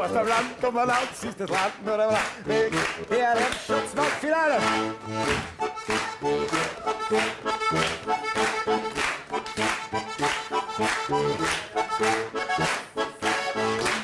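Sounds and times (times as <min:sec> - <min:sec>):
accordion playing chords: 0:00.0 - 0:14.0.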